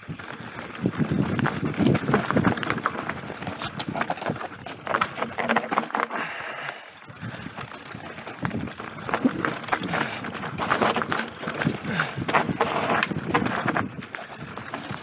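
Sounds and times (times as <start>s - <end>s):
bike knocking and rattling: 0.0s - 15.0s
bike tyres rolling over dirt: 0.0s - 15.0s.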